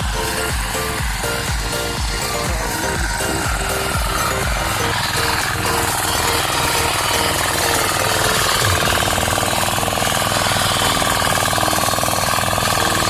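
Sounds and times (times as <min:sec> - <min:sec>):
diesel tractor engine knocking: 0:00.0 - 0:13.0.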